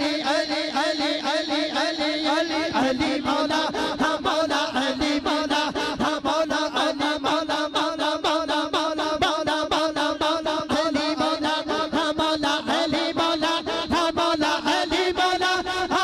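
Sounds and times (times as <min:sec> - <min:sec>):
men chanting through loudspeakers: 0:00.0 - 0:16.0.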